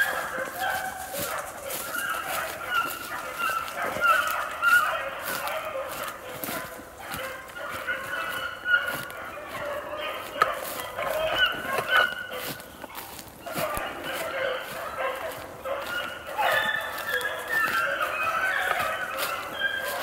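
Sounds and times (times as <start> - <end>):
beagles baying: 0.0 - 20.0.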